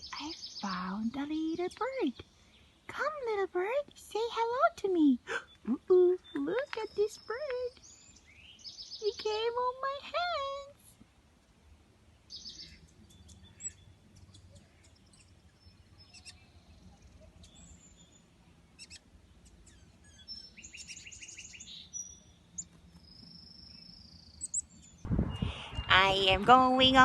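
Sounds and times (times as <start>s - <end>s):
small songbird chirping: 0.0s - 27.0s.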